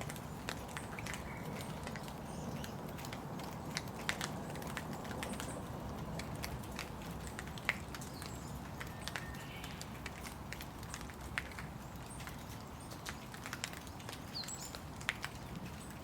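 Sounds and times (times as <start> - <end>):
raindrops tapping close by: 0.0 - 16.0
steady rain hiss: 0.0 - 16.0.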